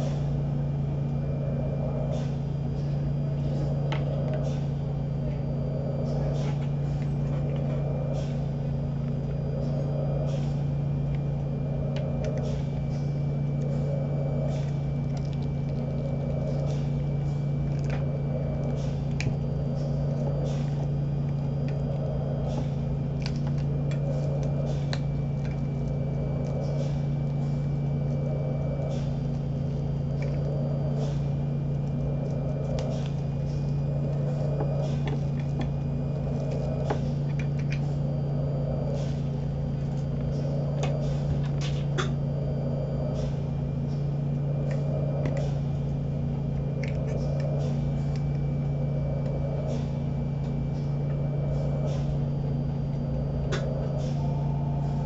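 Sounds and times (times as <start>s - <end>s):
ventilator humming and whooshing: 0.0s - 55.0s.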